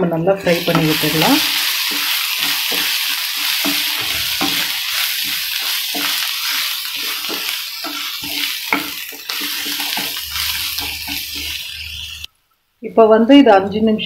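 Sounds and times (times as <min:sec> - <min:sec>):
food sizzling in a frying pan: 0:00.4 - 0:12.3
wooden spatula scraping a pan: 0:00.4 - 0:12.3.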